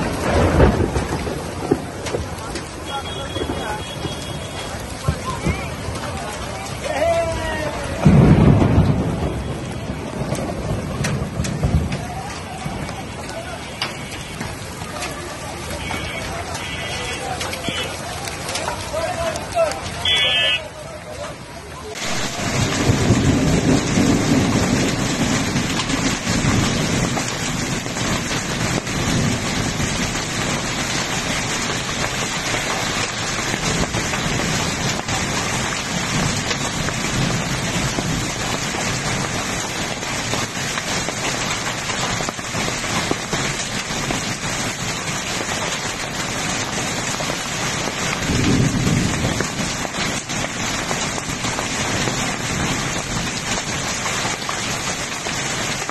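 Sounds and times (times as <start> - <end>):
heavy rain and hail on pavement: 0.0 - 55.9.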